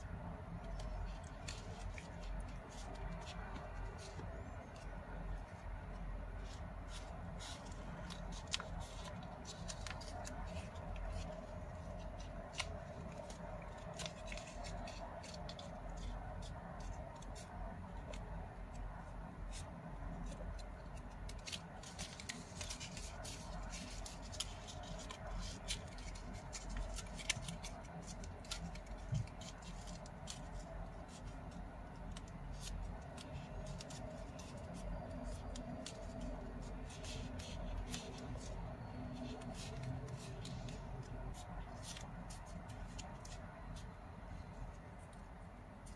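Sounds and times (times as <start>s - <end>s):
steady low background hum: 0.0s - 45.9s
paper crinkling and creasing: 0.1s - 45.9s.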